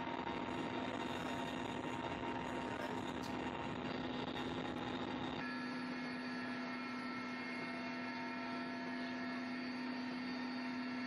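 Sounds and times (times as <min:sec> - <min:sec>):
helicopter cabin drone: 0:00.0 - 0:11.0
whining tones: 0:00.0 - 0:11.0.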